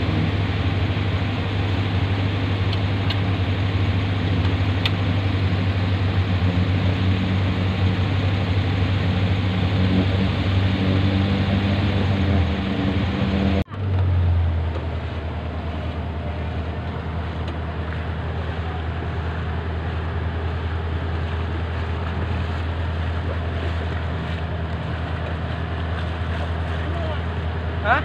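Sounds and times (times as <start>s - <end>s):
car engine running: 0.0s - 28.0s
water washing: 0.0s - 28.0s.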